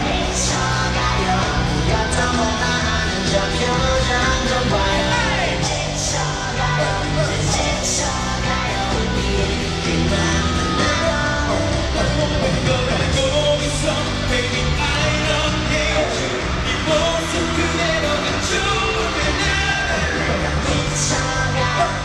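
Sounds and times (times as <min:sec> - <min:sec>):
crowd yelling: 0:00.0 - 0:22.0
live pop music with singing: 0:00.0 - 0:22.0.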